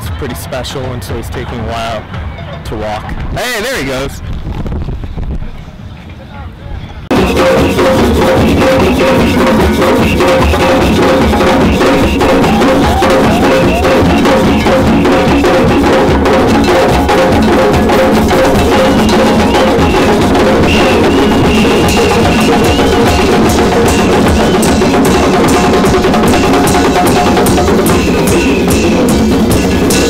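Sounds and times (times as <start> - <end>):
drums playing steady beat: 0.0 - 5.4, 7.0 - 30.0.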